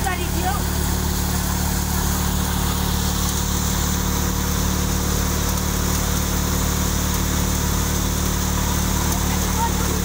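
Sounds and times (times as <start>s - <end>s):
threshing machine droning: 0.0s - 10.0s.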